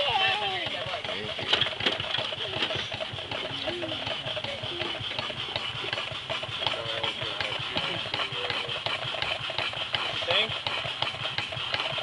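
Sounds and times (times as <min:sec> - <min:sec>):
steam engine mechanical beat: 0:00.0 - 0:12.0.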